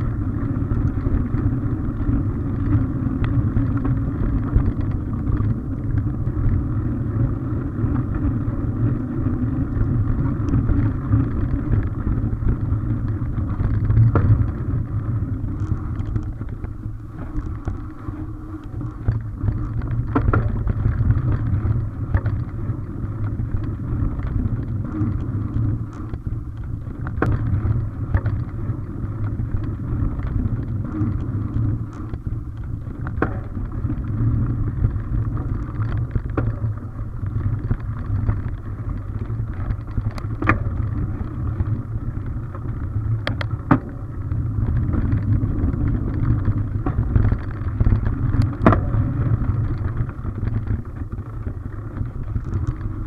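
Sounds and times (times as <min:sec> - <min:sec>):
bike clicks and knocks: 0:00.0 - 0:53.0
bike tyres rumbling on dirt: 0:00.0 - 0:53.0
wind on microphone: 0:00.0 - 0:53.0.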